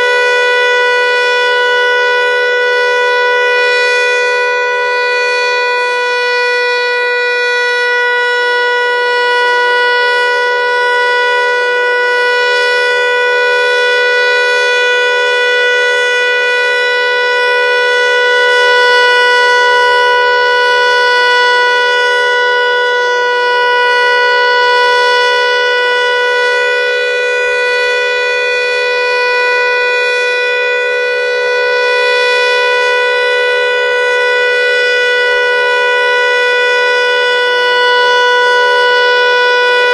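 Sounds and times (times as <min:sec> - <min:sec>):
buzzing from siren: 0:00.0 - 0:39.9
warning siren steady tone: 0:00.0 - 0:39.9.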